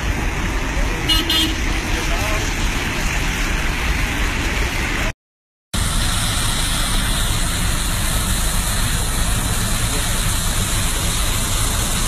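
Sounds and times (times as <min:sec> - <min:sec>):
floodwater rushing over waterfall: 0:00.0 - 0:05.1, 0:05.8 - 0:12.0.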